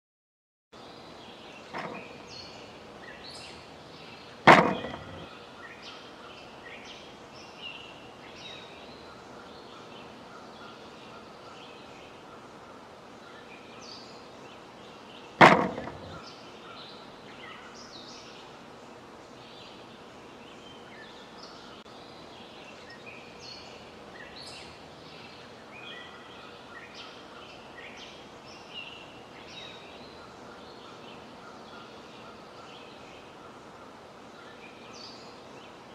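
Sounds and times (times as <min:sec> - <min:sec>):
birds chirping: 0:00.8 - 0:35.9
outdoor background hiss: 0:00.8 - 0:35.9.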